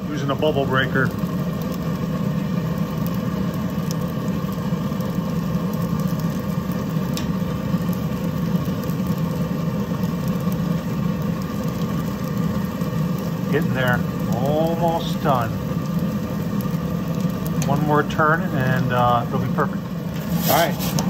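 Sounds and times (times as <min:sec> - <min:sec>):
gas burner rushing: 0:00.0 - 0:21.0.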